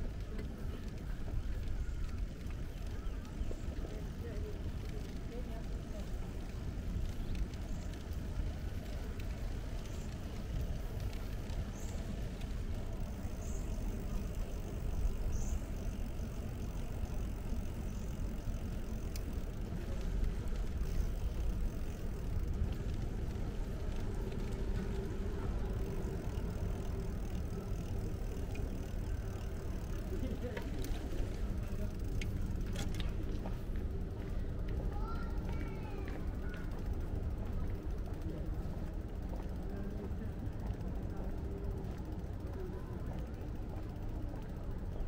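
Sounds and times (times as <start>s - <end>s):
bicycle tyres on pavement: 0.0s - 45.0s.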